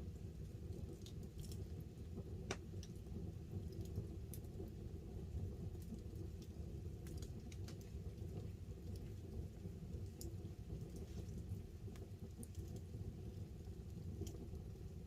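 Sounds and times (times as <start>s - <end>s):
campfire crackling and popping: 0.0s - 15.0s
fire low rumble: 0.0s - 15.0s.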